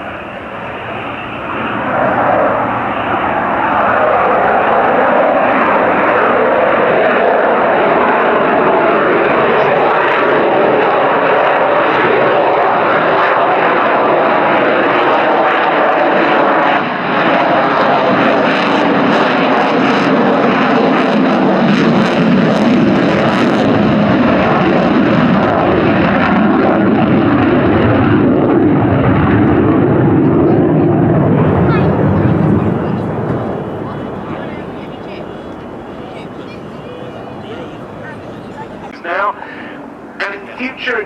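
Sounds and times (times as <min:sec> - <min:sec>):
jet engine roar: 0:00.0 - 0:41.0.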